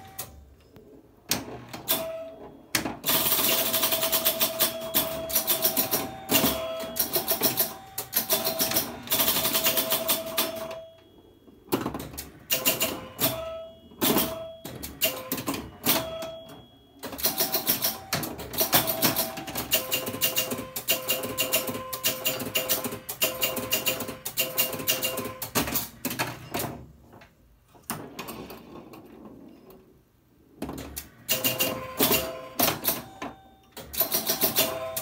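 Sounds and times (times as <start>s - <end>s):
pinball machine clicking and clattering: 0.0s - 35.0s.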